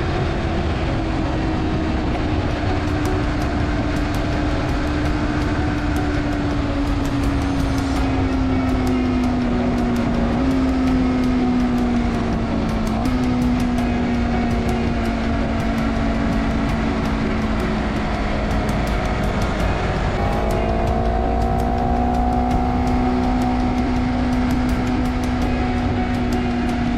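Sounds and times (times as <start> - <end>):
higher rising engine note: 0.0 - 26.9
motorcycle engine running: 0.0 - 26.9.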